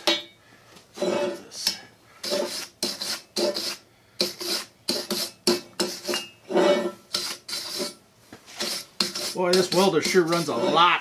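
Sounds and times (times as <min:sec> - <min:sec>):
wire brush scrubbing steel: 0:01.0 - 0:11.0.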